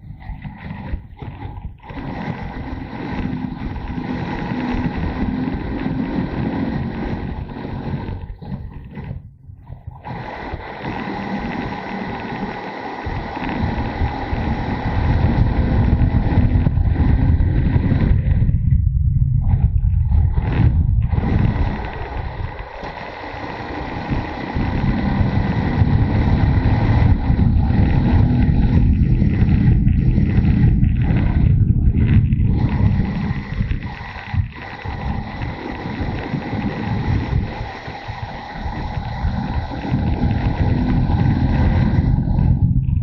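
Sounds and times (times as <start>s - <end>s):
motorcycle engine running: 0.0s - 43.0s
wind on microphone: 0.0s - 43.0s.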